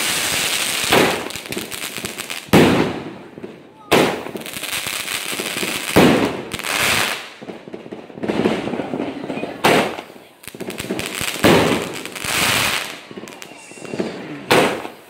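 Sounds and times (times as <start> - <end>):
firework crackling: 0.0 - 15.0.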